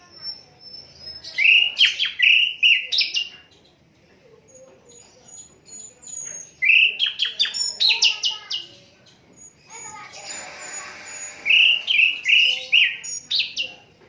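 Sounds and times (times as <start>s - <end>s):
bird chirping: 0.0s - 3.8s, 4.5s - 13.9s.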